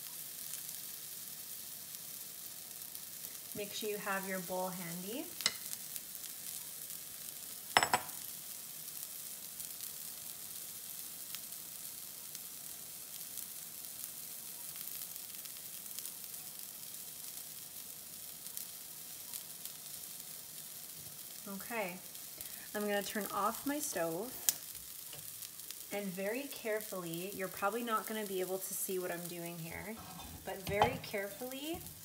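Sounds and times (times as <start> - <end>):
vegetables sizzling in frying pan: 0.0 - 32.0.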